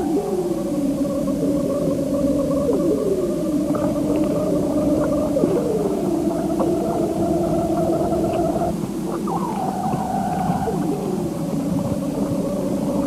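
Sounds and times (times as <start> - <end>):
droning synthesizer tones: 0.0 - 13.0.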